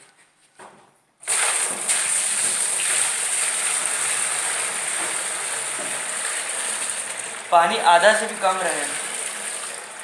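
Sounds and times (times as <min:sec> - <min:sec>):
water pouring into washing drum: 0:01.2 - 0:10.0.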